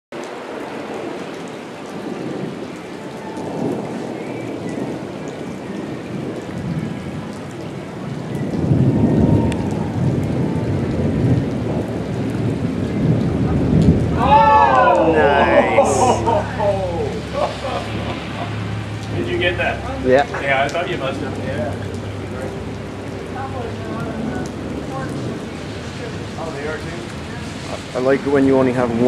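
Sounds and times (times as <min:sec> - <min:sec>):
rain on wet pavement: 0:00.1 - 0:29.0
thunder rumbling: 0:00.3 - 0:29.0.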